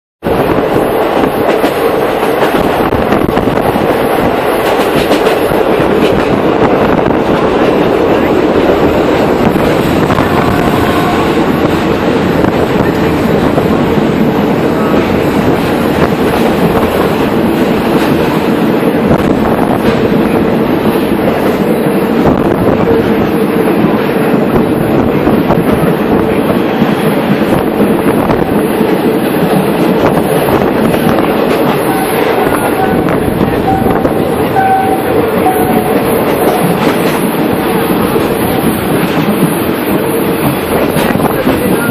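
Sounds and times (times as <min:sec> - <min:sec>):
train wheels rumbling on rails: 0:00.2 - 0:41.9
wind rushing past microphone: 0:00.2 - 0:41.9.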